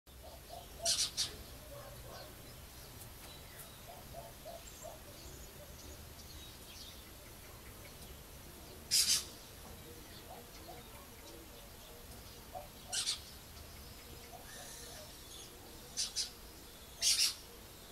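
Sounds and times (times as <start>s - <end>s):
harsh bird calls: 0.1s - 17.9s.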